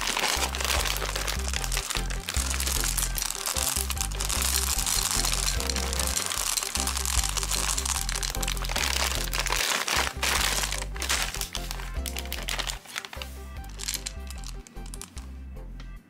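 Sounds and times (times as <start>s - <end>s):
plastic bag crinkling: 0.0s - 15.2s
candies rattling into bowl: 0.0s - 15.3s
music with steady bass line: 0.0s - 16.0s.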